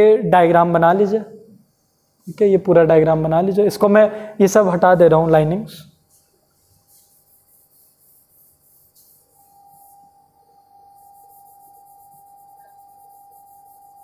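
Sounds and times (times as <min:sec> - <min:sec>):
faint high-pitched whine: 0:00.0 - 0:14.0
soft hiss: 0:00.0 - 0:14.0.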